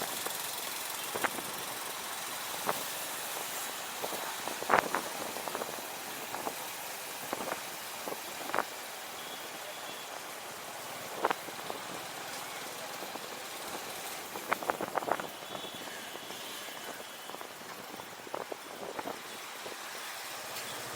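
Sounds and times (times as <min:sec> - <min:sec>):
rushing wind: 0:00.0 - 0:09.7, 0:10.4 - 0:20.0
motorcycle road noise: 0:00.0 - 0:20.9.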